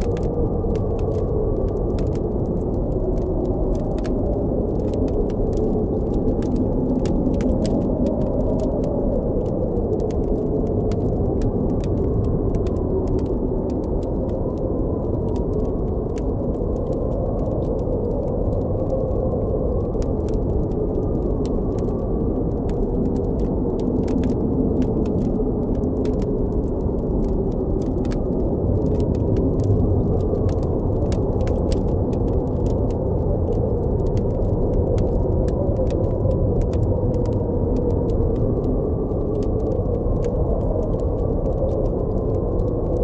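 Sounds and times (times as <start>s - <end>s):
campfire crackling: 0.0s - 43.0s
wind howling: 0.0s - 43.0s.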